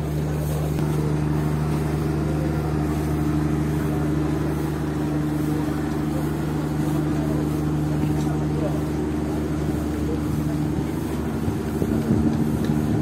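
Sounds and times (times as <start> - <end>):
ship diesel engine idling: 0.0 - 13.0.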